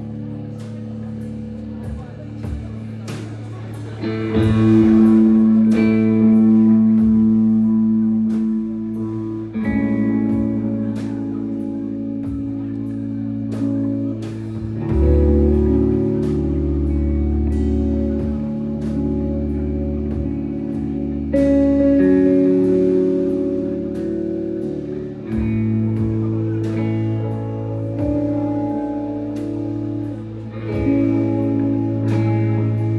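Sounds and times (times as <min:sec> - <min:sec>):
deep bass: 0:00.0 - 0:32.9
electric guitar chords: 0:00.0 - 0:32.9.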